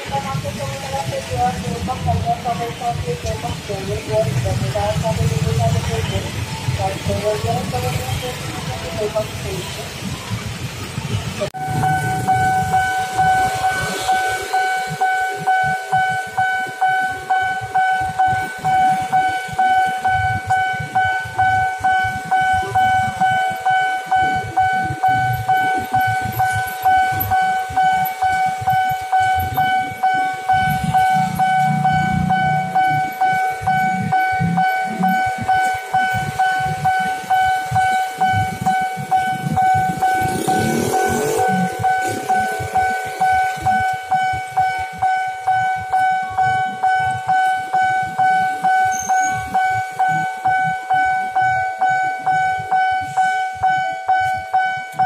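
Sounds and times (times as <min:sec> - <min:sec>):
level crossing warning bell: 0:00.0 - 0:55.0
motorbike engines running: 0:00.0 - 0:55.0.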